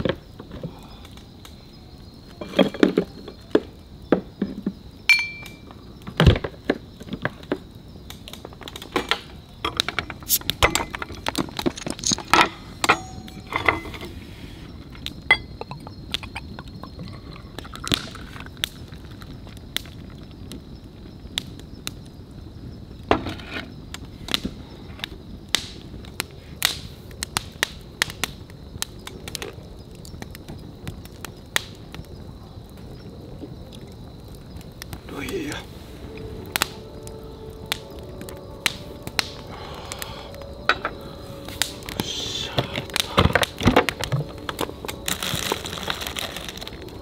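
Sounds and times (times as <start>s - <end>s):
campfire crackling and popping: 0.0s - 47.0s
low steady hiss: 0.0s - 47.0s.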